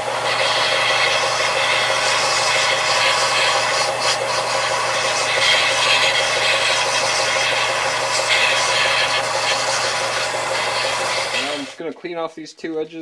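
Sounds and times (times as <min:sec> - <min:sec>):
belt sander motor hum: 0:00.0 - 0:11.8
sanding hiss: 0:00.0 - 0:11.8.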